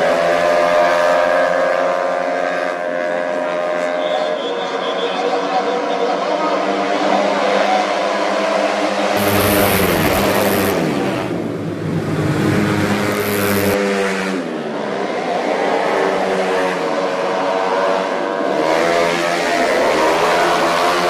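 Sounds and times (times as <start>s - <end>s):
scooters racing at high revs: 0.0s - 21.0s.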